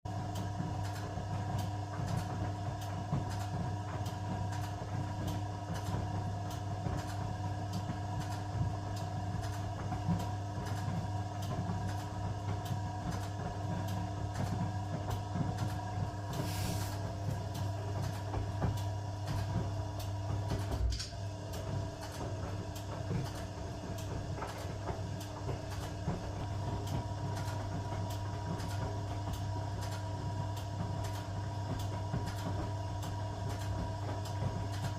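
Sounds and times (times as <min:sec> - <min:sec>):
washing machine motor hum: 0:00.1 - 0:34.9.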